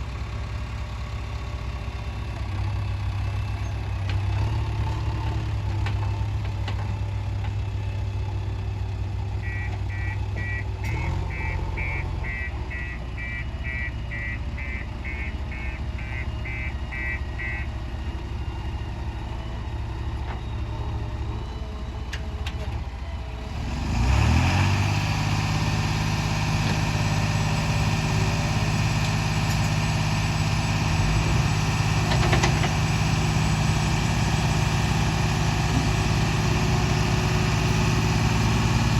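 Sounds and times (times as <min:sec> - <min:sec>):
diesel engine idling and revving: 0:00.0 - 0:38.9.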